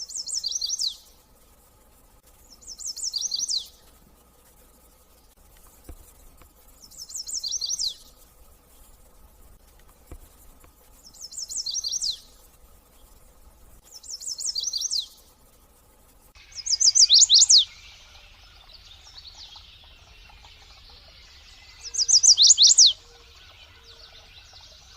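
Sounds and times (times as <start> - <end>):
songbird singing: 0.0 - 1.7, 2.3 - 15.5, 16.4 - 24.9.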